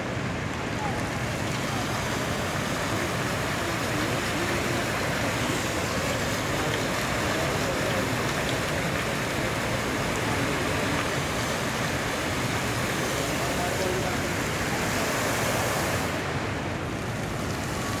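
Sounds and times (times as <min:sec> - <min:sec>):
fountain jets spraying and splashing: 0:00.0 - 0:18.0.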